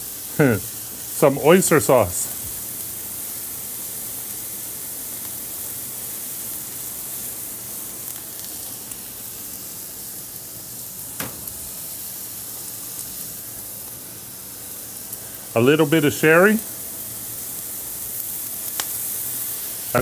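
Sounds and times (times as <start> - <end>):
cabbage sizzling on a griddle: 0.0 - 20.0.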